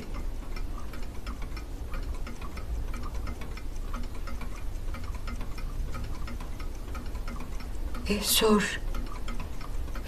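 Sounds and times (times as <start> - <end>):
low room hum: 0.0 - 10.0
wall clock ticking: 0.0 - 10.0.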